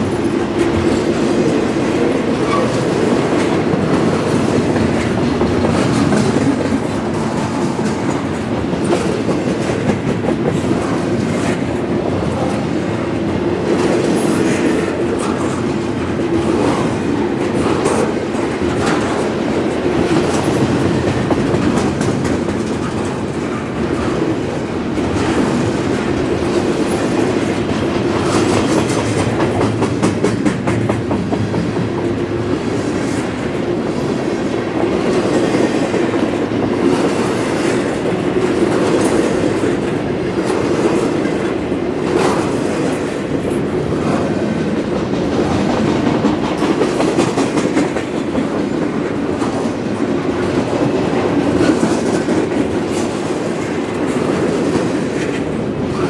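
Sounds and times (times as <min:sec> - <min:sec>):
wheels clicking over rail joints: 0:00.0 - 0:12.7, 0:13.6 - 0:56.0
train cars rumbling past: 0:00.0 - 0:56.0.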